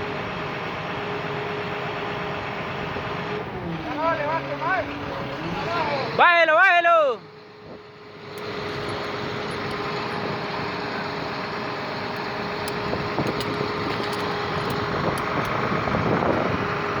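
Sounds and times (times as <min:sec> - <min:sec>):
constant engine whine: 0:00.0 - 0:17.0
vehicle engine running: 0:00.0 - 0:17.0.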